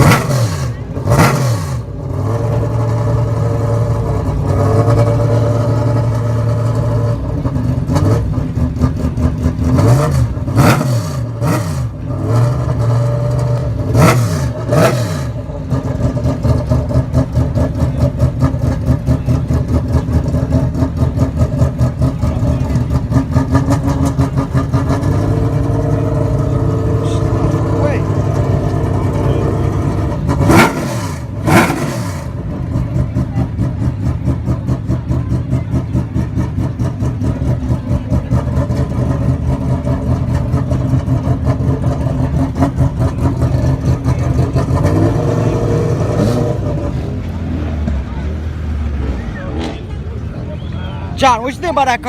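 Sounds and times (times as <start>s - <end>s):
race car engine idling: 0.0s - 52.0s
race car engine revving: 0.0s - 52.0s.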